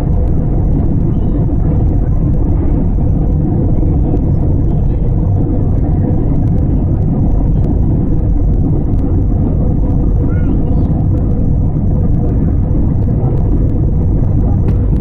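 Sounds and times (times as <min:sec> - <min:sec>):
faint steady hum: 0:00.0 - 0:15.0
jet engine rumble in cabin: 0:00.0 - 0:15.0.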